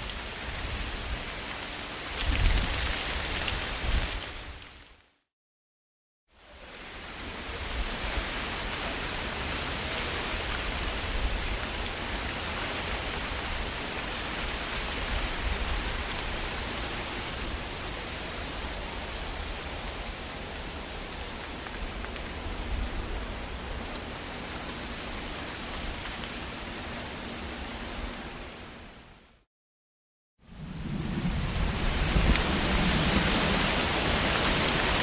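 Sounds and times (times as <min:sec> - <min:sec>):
wind rustling leaves: 0:00.0 - 0:05.1, 0:06.3 - 0:29.5, 0:30.4 - 0:35.0.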